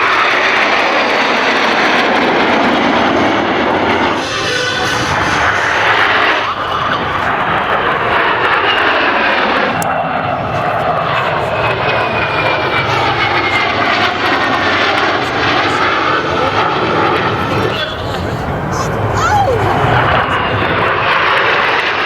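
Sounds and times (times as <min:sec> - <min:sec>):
aircraft engines flying past: 0:00.0 - 0:22.0.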